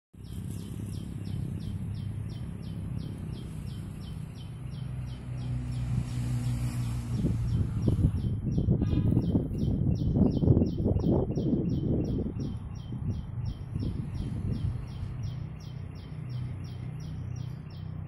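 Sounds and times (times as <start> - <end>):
wind rumble on microphone: 0.2 - 18.0.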